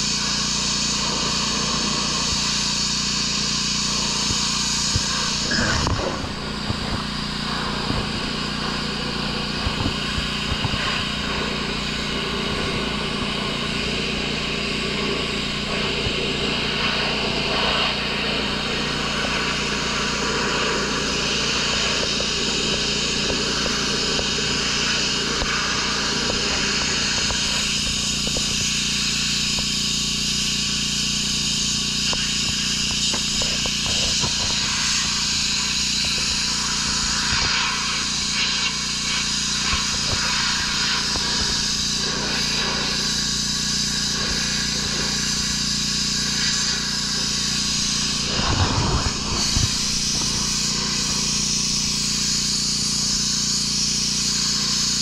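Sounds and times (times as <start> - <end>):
pressure washer engine running: 0.0 - 55.0
water spray hissing: 0.0 - 55.0.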